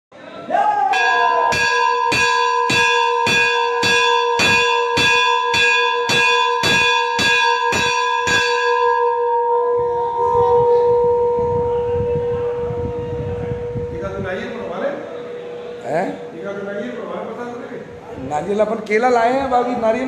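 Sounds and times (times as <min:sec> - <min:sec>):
temple bell ringing: 0:00.9 - 0:17.6.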